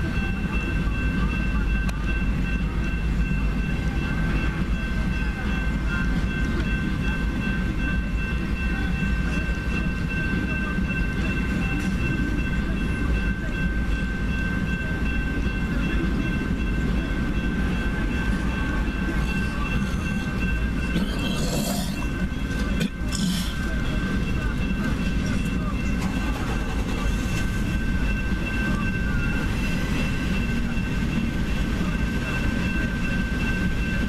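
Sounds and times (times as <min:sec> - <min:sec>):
high steady tones: 0:00.0 - 0:34.0
train wheels rumbling on rails: 0:00.0 - 0:34.0.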